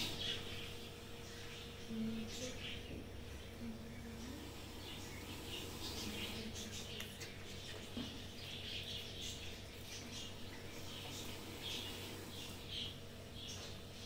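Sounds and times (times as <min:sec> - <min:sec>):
low electrical hum: 0:00.0 - 0:14.0
small animals chirping: 0:00.0 - 0:14.0.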